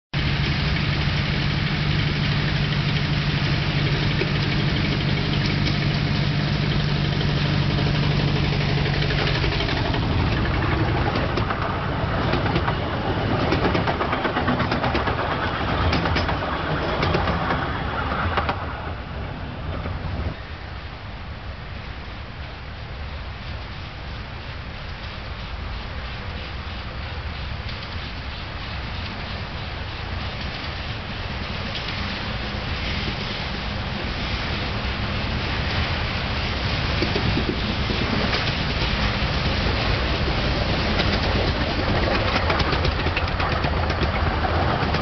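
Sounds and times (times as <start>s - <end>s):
train wheels rattling on track: 0.2s - 21.0s, 21.6s - 45.0s
locomotive engine humming: 0.2s - 45.0s.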